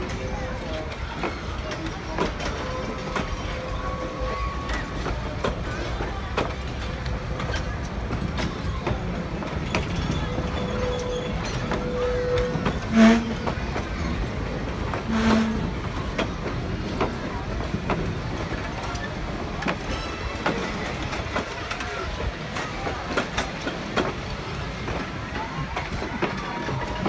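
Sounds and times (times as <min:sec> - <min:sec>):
train coaches rumbling: 0:00.0 - 0:27.0
wheels clicking over rail joints: 0:00.0 - 0:27.0.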